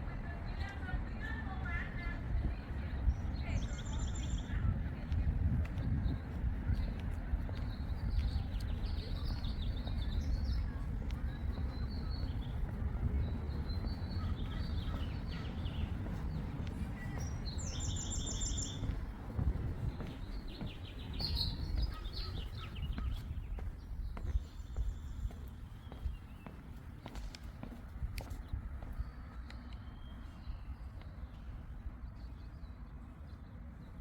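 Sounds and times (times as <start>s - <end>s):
steady low rumble: 0.0s - 34.0s
small birds chirping: 0.1s - 34.0s.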